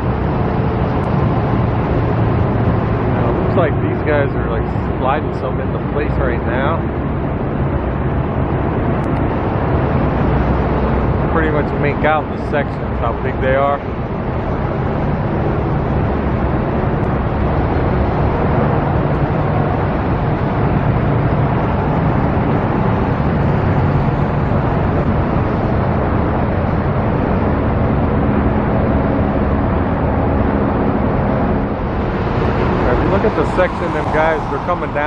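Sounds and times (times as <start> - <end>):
low engine hum: 0.0 - 35.0
road traffic: 0.0 - 35.0.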